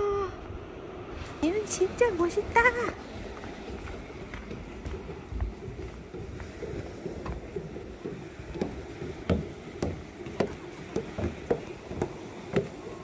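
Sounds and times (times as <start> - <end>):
footsteps on wooden stairs: 1.6 - 13.0.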